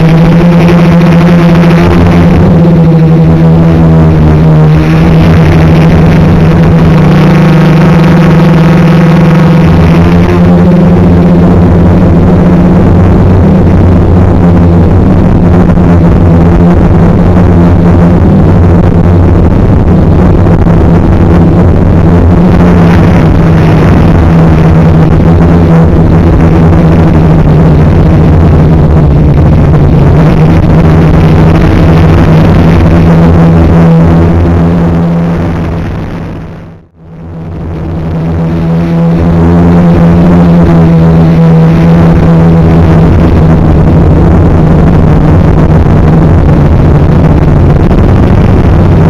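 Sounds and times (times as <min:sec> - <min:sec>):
drone motors buzzing: 0:00.0 - 0:49.0.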